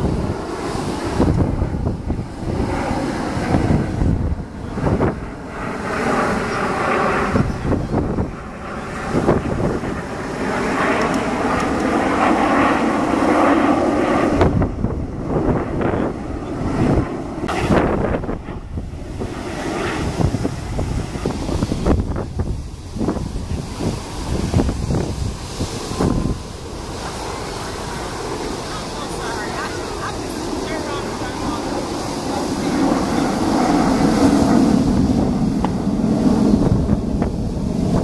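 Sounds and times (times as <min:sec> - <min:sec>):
jet engines flying past: 0:00.0 - 0:38.0
wind buffeting microphone: 0:00.0 - 0:38.0.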